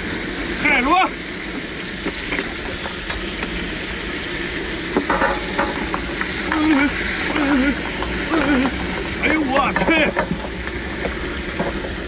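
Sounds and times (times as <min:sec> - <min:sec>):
seafood sizzling in a wok: 0:00.0 - 0:12.0.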